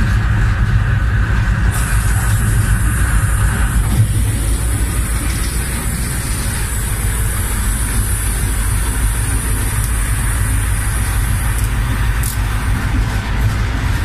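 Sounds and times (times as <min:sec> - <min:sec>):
locomotive engine rumble: 0:00.0 - 0:14.0.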